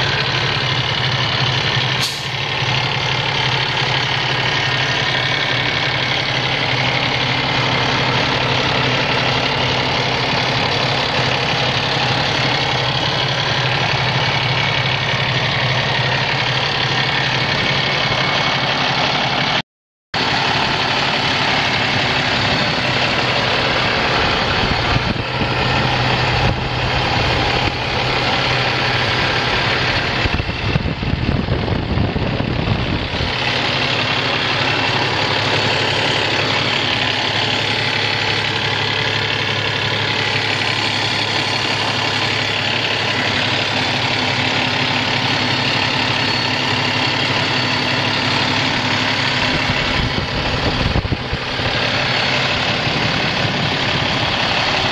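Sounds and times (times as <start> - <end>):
diesel truck engine idling: 0.0 - 19.6, 20.2 - 54.9.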